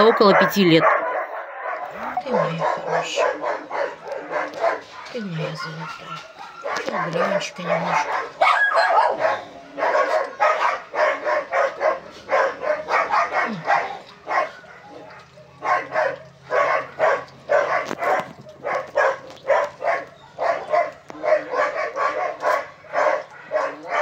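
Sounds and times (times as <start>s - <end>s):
dog barking: 0.0s - 24.0s.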